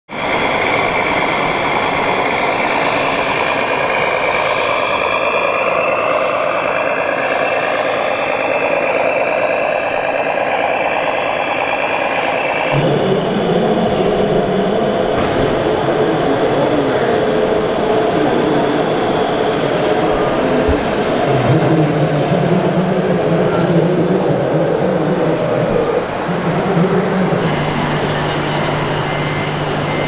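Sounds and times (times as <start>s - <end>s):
hall noise: 0.1s - 30.0s
simulated diesel engine sound: 0.1s - 30.0s.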